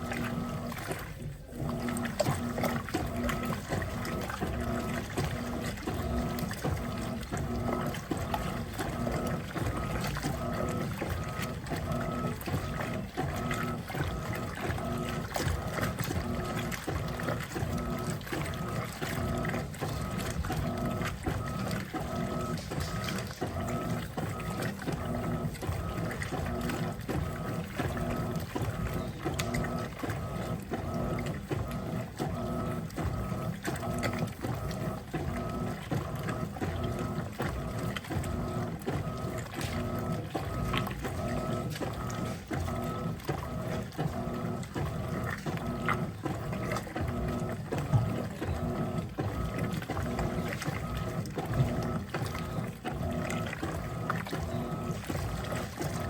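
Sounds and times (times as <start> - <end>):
washing machine agitating: 0.0 - 56.0
water sloshing: 0.0 - 56.0.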